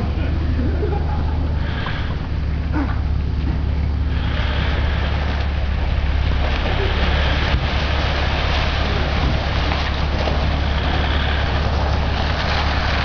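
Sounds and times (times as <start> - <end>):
vehicle driving over stony stream: 0.0 - 13.0.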